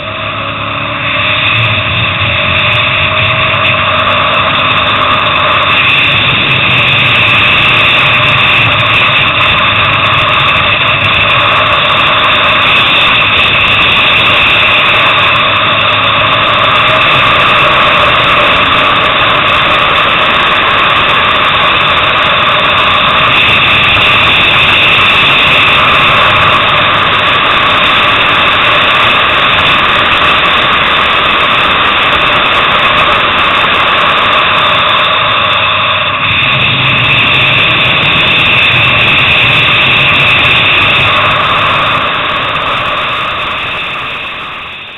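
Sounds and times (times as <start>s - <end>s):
motorcycle engine revving high: 0.0s - 44.9s.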